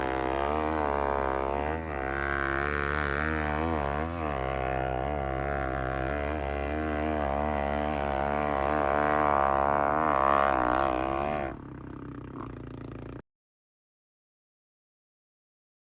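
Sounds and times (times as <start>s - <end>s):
dirt bike engine revving: 0.0s - 13.2s.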